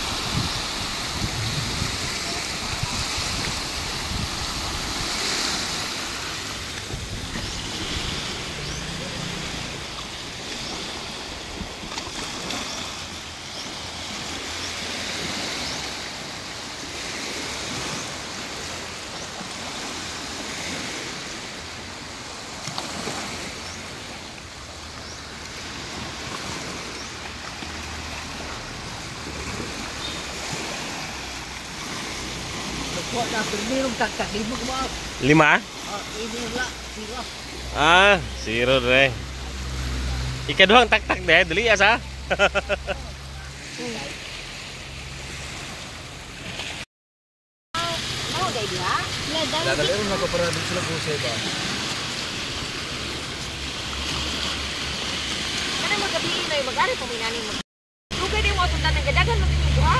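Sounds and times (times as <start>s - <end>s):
small waves breaking on shore: 0.0s - 46.9s, 47.8s - 59.9s.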